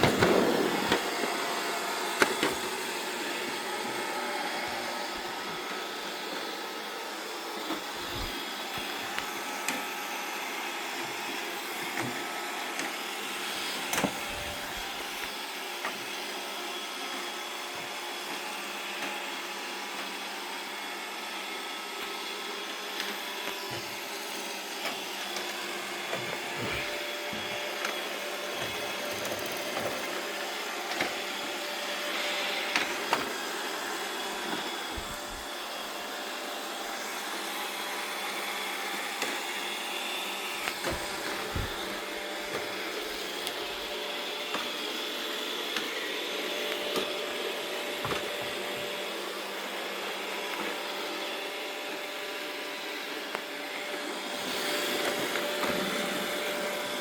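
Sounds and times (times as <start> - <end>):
robot vacuum whirring: 0.0 - 57.0.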